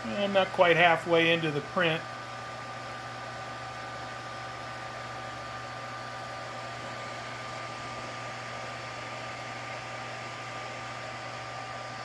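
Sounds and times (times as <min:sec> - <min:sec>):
printer fans whirring: 0:00.0 - 0:12.0.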